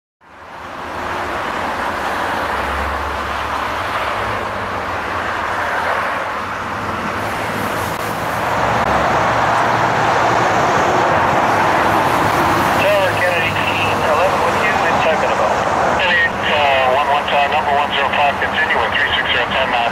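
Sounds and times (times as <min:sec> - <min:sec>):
jet airliner engine drone: 0:00.4 - 0:19.9.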